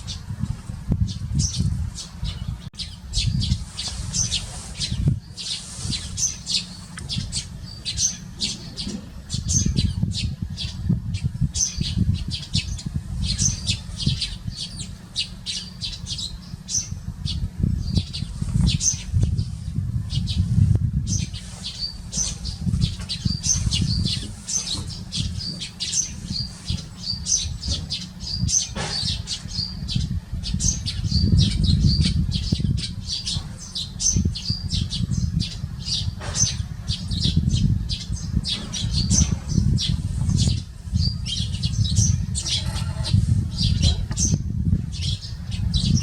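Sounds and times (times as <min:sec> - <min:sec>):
sparrows chirping: 0:00.0 - 0:46.0
steady low rumble: 0:00.0 - 0:46.0.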